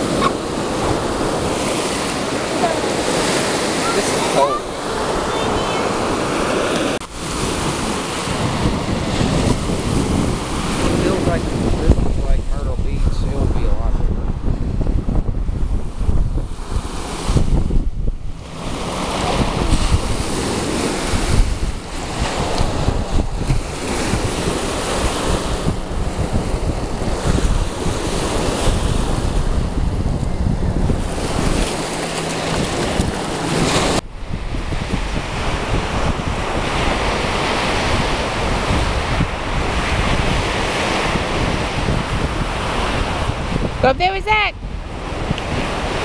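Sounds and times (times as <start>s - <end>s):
waves washing onto sandy shore: 0.0s - 46.0s
wind buffeting microphone: 0.0s - 46.0s.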